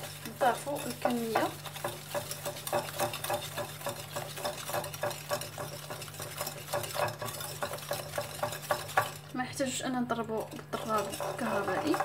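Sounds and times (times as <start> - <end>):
whisk beating in a ceramic bowl: 0.0 - 12.0.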